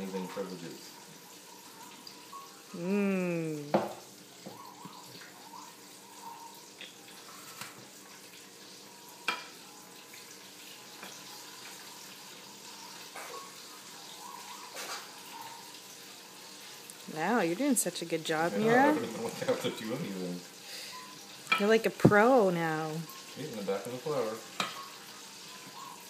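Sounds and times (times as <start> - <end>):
hot oil sizzling in a fryer: 0.0 - 26.0.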